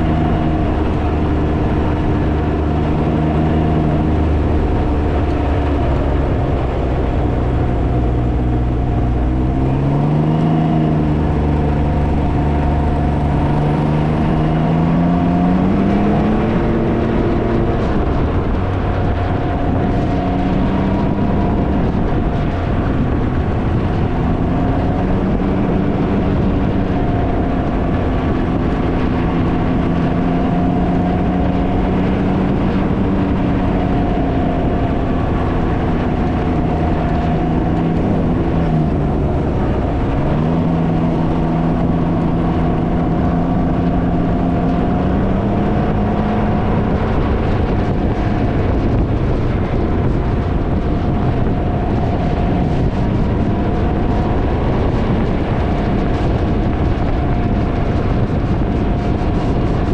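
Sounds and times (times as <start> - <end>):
vehicle engine cruising: 0.0 - 59.9
wind buffeting microphone: 0.0 - 59.9.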